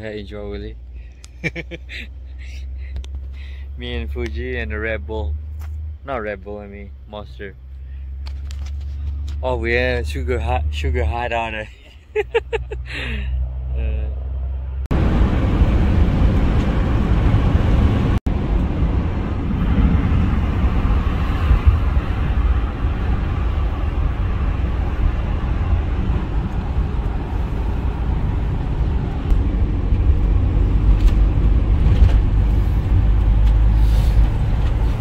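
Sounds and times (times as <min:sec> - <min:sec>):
car road noise rumble: 0:00.0 - 0:35.0.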